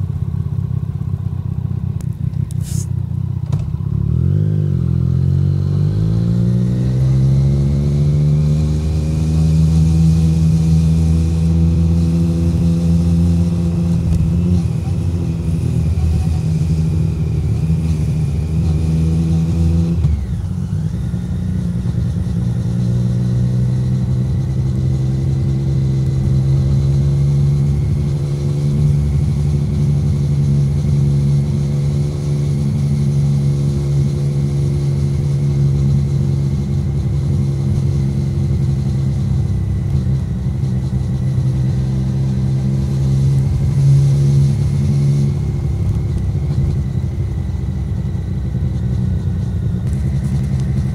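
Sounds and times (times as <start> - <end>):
motorcycle engine at low revs: 0.0 - 50.9.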